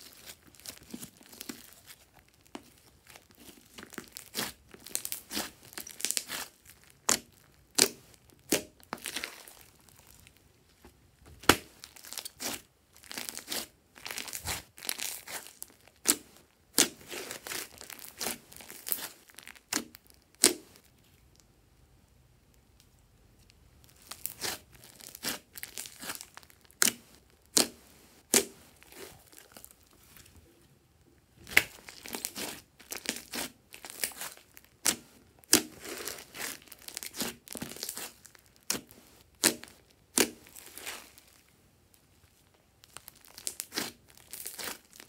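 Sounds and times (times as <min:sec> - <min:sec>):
sticky wet slime squelching: 0:00.0 - 0:10.4, 0:11.4 - 0:20.9, 0:23.8 - 0:30.4, 0:31.2 - 0:41.4, 0:42.8 - 0:45.0.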